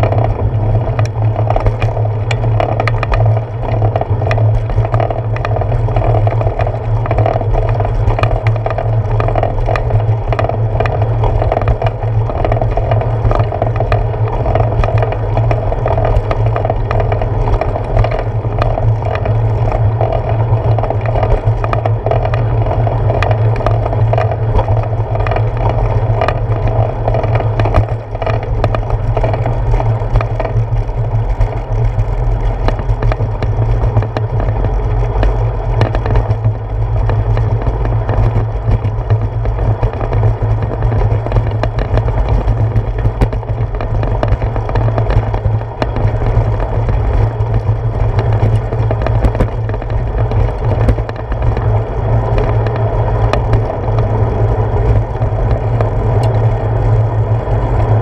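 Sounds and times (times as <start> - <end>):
small clicks and rattles: 0.0 - 58.0
tyres on pavement: 0.0 - 58.0
wind rumble: 0.0 - 58.0.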